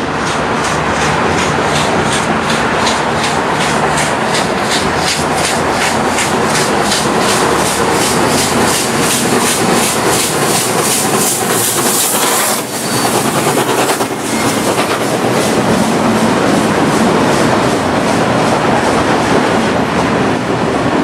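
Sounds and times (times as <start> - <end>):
steam locomotive chuffing: 0.0 - 20.4.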